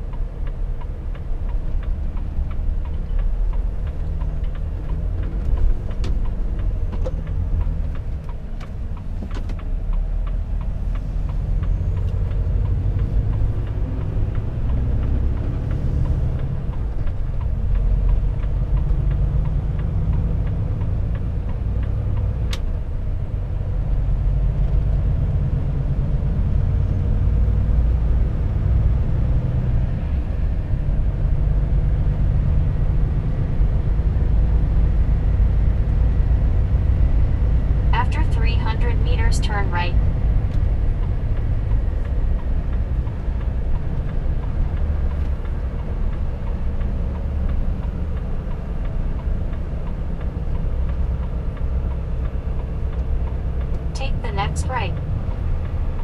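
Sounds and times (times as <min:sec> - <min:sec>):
road noise: 0:00.0 - 0:56.0
truck diesel engine drone: 0:00.0 - 0:56.0.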